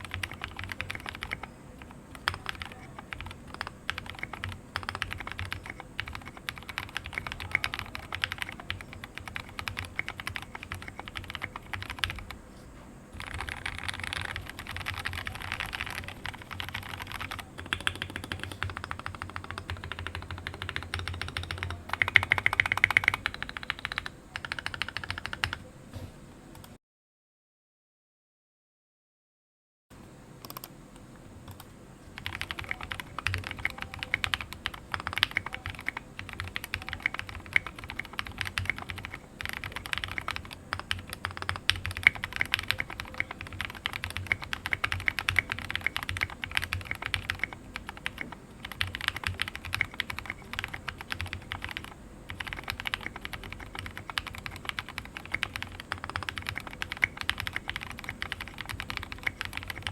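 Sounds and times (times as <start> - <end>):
typing on mechanical keyboard: 0.0 - 12.3, 13.2 - 25.6, 32.2 - 59.9.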